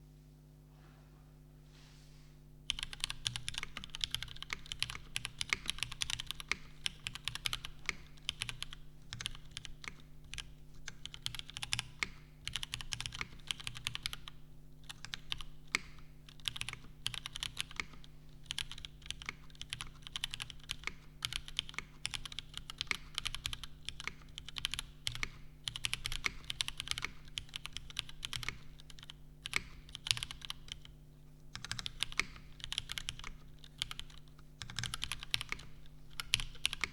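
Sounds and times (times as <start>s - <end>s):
mechanical keyboard typing: 2.7s - 36.9s.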